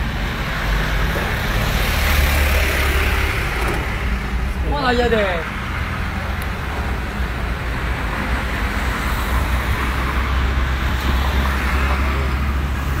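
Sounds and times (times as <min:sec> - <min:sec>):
tyre noise on wet road: 0:00.0 - 0:13.0.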